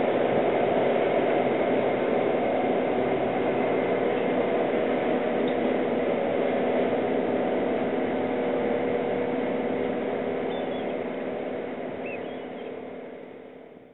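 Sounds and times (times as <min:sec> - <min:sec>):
mechanical engine hum: 0:00.0 - 0:13.9.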